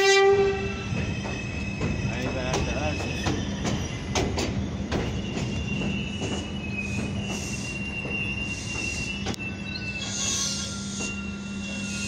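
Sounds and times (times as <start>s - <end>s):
train wheels clicking over rail joints: 0.3s - 11.4s
wheel and brake squeal: 0.5s - 12.0s.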